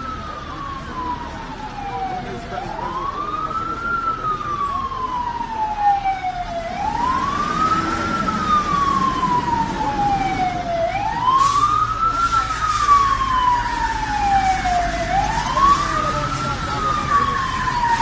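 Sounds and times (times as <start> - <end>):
emergency siren wailing: 0.0 - 18.0
road traffic rumble: 0.0 - 18.0.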